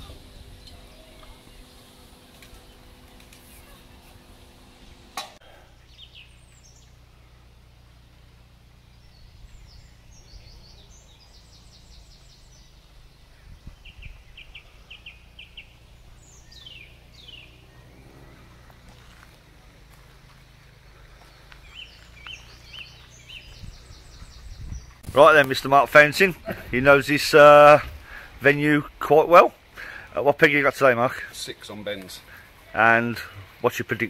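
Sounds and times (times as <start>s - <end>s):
low outdoor rumble: 0.0s - 34.0s
small birds singing: 0.0s - 34.0s.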